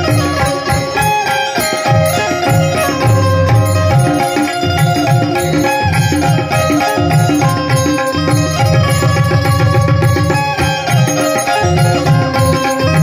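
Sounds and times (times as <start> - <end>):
bulbul tarang melody: 0.0 - 13.0
tabla drum strokes: 0.0 - 13.0.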